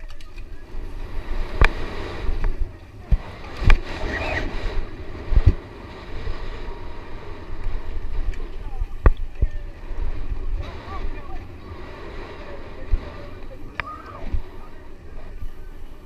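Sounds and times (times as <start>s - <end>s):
tyres rumbling on dirt: 0.0s - 16.0s
wind rushing over microphone: 0.0s - 16.0s.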